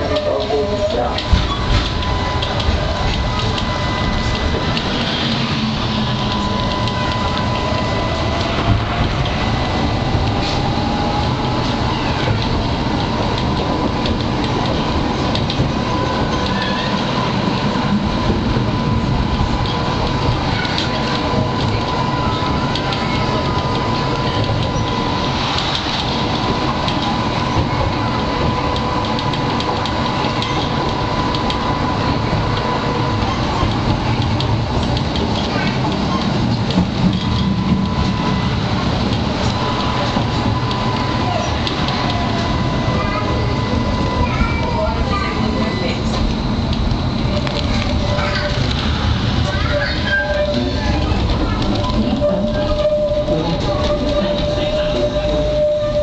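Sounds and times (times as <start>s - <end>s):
tram running on rails: 0.0s - 56.0s.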